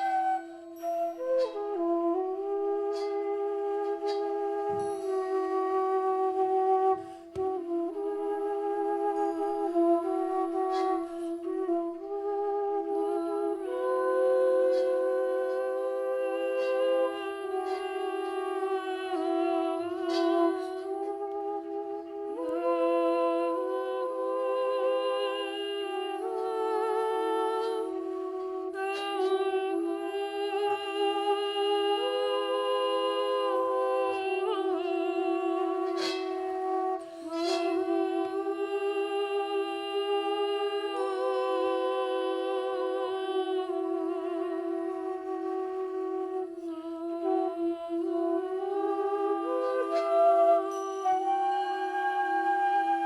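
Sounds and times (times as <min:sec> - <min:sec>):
slow lament melody: 0:00.0 - 0:53.0.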